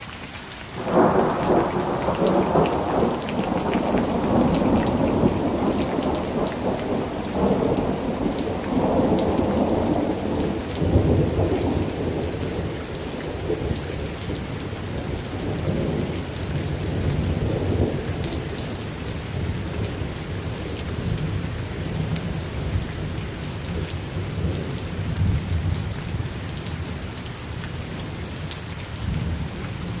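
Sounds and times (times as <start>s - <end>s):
heavy rain falling: 0.0s - 30.0s
thunder rumbling: 0.8s - 25.8s.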